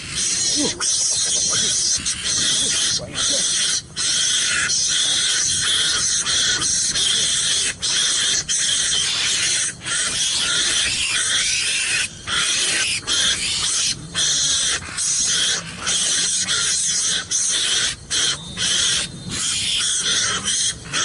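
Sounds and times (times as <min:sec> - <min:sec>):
harsh hissing animal calls: 0:00.0 - 0:21.0.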